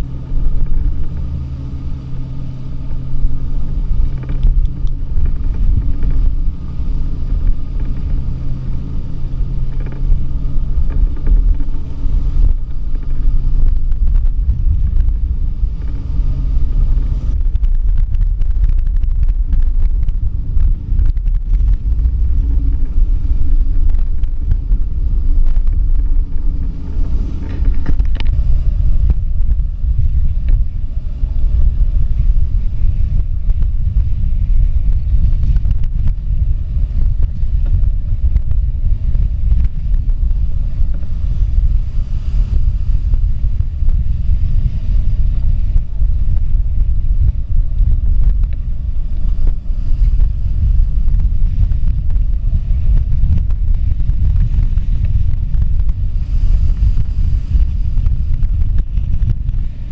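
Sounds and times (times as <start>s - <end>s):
steady low hum: 0.0s - 59.9s
waves breaking along hull: 0.0s - 59.9s
wind buffeting microphone: 0.0s - 59.9s.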